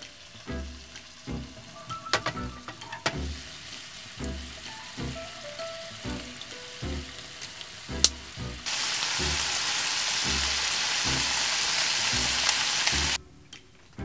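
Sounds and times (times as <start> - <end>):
shrimp sizzling in oil: 0.0 - 13.2.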